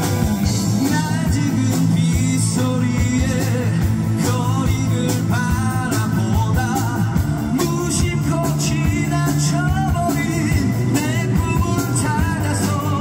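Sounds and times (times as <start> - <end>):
drum kit beat: 0.0 - 13.0
electric guitars: 0.0 - 13.0
man singing into a microphone: 0.5 - 13.0.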